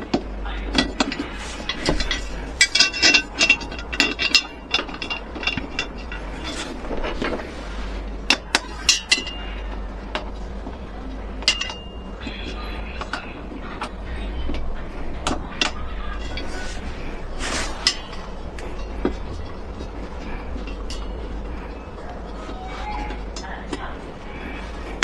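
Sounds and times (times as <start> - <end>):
metal hand tools clinking: 0.6 - 7.5, 8.1 - 10.3, 11.4 - 13.4, 15.2 - 25.0.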